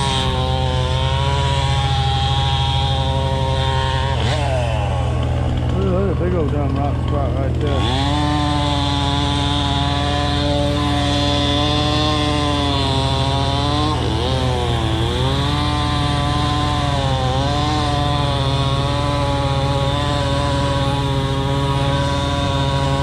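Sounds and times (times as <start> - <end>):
chainsaw cutting at high revs: 0.0 - 23.0.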